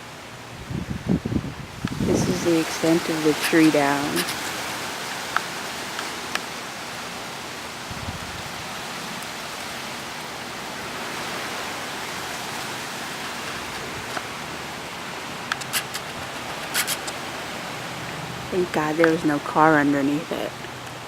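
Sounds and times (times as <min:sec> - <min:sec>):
wind hiss: 0:00.0 - 0:21.0.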